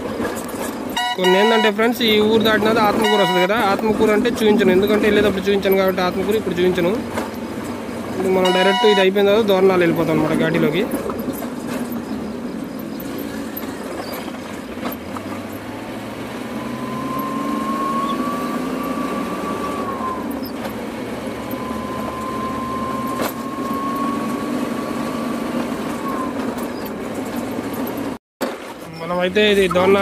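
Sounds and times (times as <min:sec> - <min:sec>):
truck engine whining: 0:00.0 - 0:30.0.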